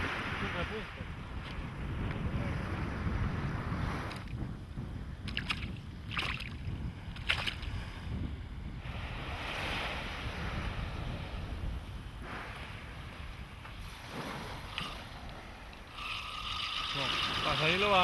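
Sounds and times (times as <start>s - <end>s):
surf washing on shore: 0.0s - 18.0s
wind rumbling on microphone: 0.0s - 18.0s.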